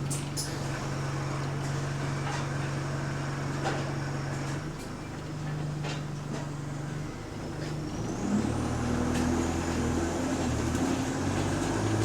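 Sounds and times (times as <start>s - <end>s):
bus cabin low hum: 0.0s - 12.0s.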